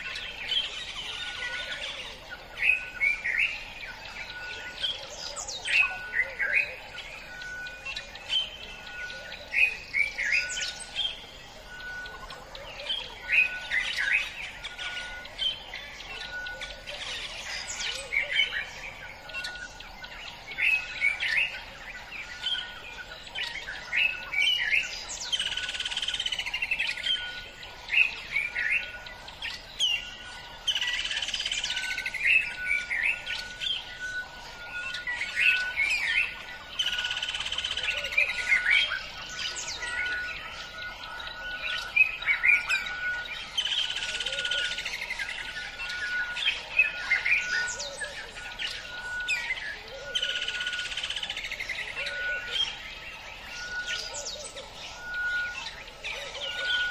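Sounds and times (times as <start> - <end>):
wild birds chirping and whistling: 0.0 - 56.9.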